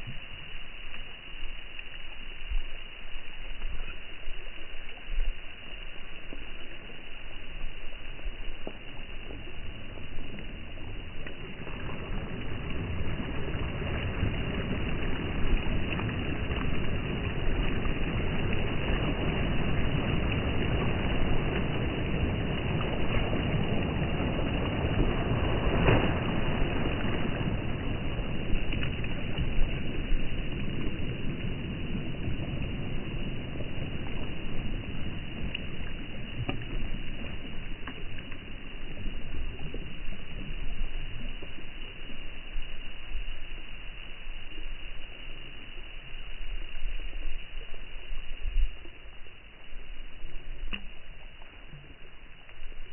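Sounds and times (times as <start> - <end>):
sea waves washing over pebbles: 0.0 - 52.9.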